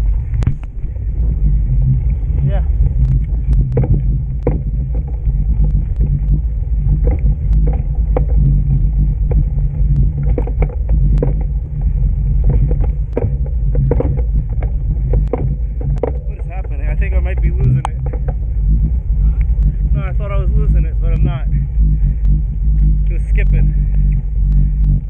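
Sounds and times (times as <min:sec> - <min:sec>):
bike clicking and clattering: 0:00.0 - 0:25.0
wind rumbling on microphone: 0:00.0 - 0:25.0.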